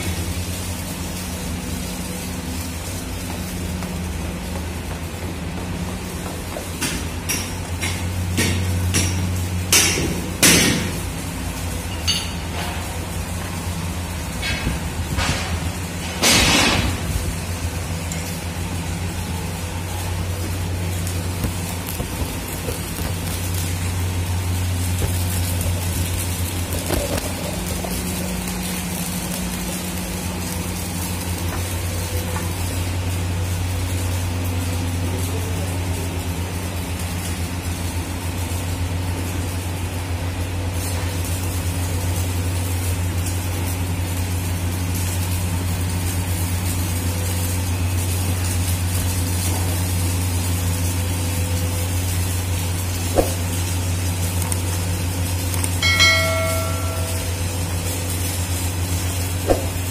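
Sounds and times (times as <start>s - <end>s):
steady low hum: 0.0s - 40.5s, 49.8s - 59.9s
welding arc crackling: 0.0s - 59.9s.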